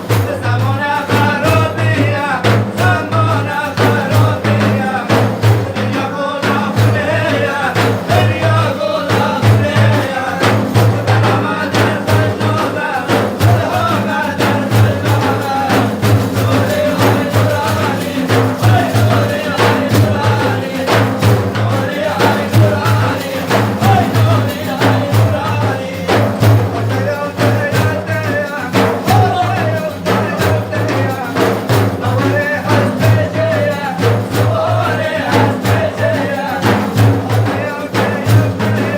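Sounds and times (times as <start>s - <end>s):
devotional praise singing: 0.0s - 38.9s
rhythmic drum beat: 0.0s - 38.9s.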